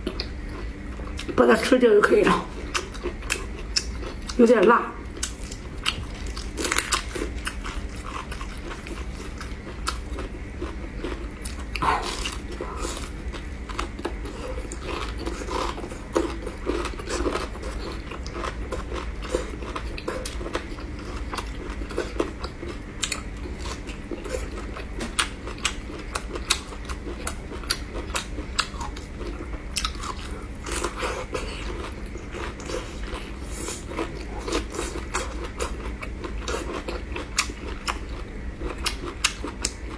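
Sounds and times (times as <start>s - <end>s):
steady low hum: 0.0s - 39.9s
biting and chewing food: 2.5s - 39.9s.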